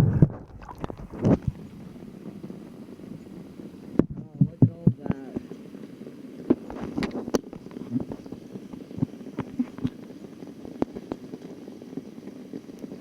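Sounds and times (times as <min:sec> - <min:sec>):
rain hissing: 0:00.0 - 0:13.0
raindrops tapping close by: 0:00.0 - 0:13.0.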